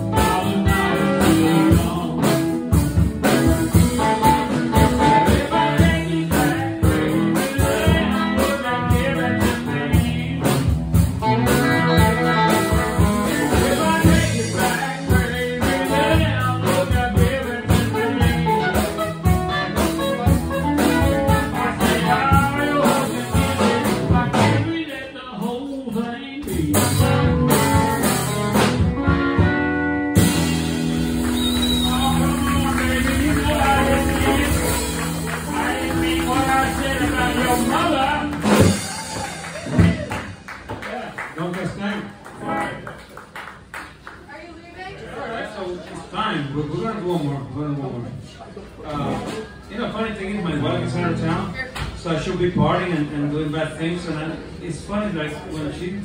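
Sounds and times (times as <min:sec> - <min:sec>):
live band with guitars: 0:00.0 - 0:44.9, 0:46.6 - 0:56.0.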